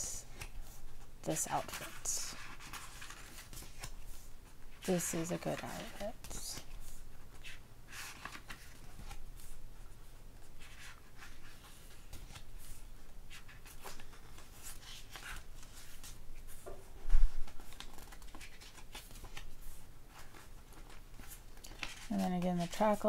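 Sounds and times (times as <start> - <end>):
book pages turning: 0.2 - 23.0.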